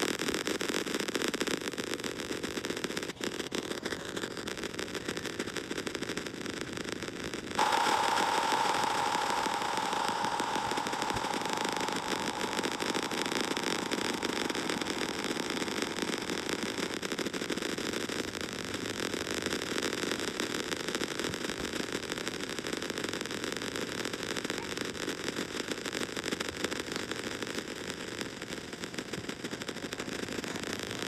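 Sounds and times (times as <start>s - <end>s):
static-like hiss: 0.0s - 31.0s.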